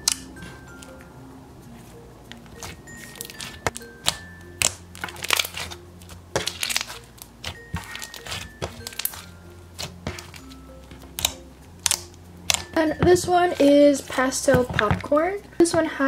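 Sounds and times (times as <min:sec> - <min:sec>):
slime crackling and popping: 0:00.0 - 0:00.6, 0:02.4 - 0:15.2
soft background music: 0:00.0 - 0:16.0.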